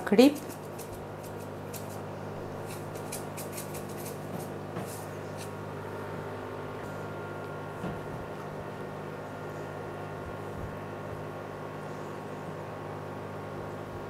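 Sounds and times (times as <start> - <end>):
induction cooktop humming: 0.0 - 14.0.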